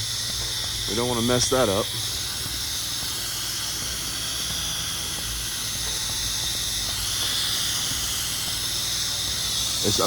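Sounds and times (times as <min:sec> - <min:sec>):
low steady hum: 0:00.0 - 0:10.0
pressure washer spraying: 0:00.0 - 0:10.0.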